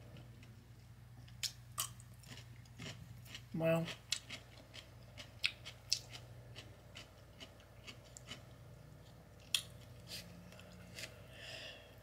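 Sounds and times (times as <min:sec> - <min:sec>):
person chewing crisp food: 0:00.1 - 0:11.4.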